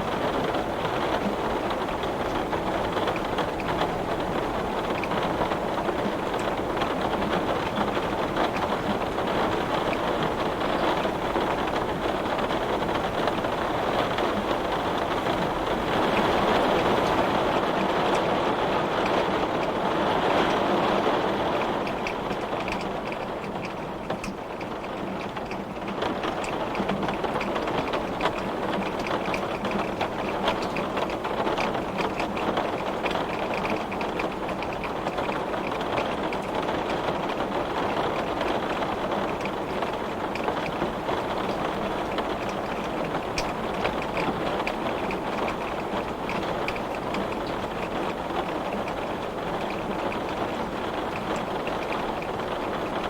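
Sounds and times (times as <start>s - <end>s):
rain drop ticks: 0.0s - 18.4s, 19.0s - 53.0s
heavy rain on window glass: 0.0s - 53.0s.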